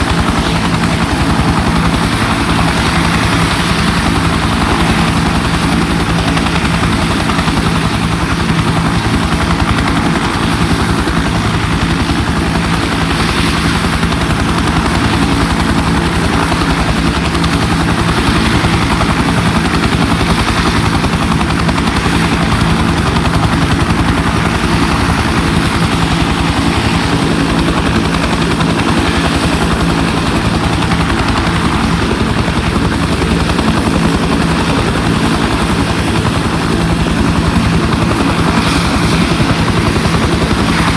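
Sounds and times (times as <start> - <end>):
helicopter engine roar: 0.0 - 40.9
helicopter rotor beat: 0.0 - 40.9.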